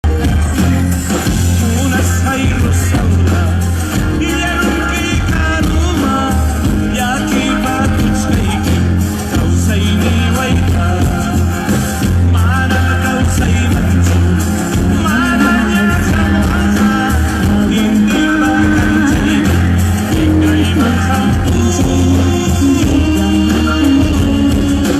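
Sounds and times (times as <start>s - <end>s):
live band playing: 0.0s - 24.9s
person singing: 0.0s - 24.9s
sustained bass: 0.0s - 24.9s.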